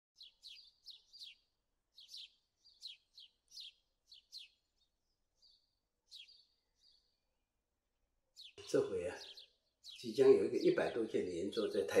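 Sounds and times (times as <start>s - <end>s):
songbird chirping: 0.2s - 12.0s.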